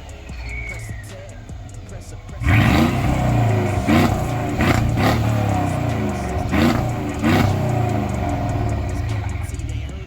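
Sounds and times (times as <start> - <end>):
car engine revving: 0.0 - 10.0
engine idle rumble: 0.0 - 10.0.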